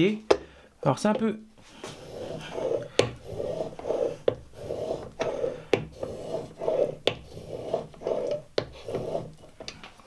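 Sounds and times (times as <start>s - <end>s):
plane iron rubbing on whetstone: 1.6s - 9.7s.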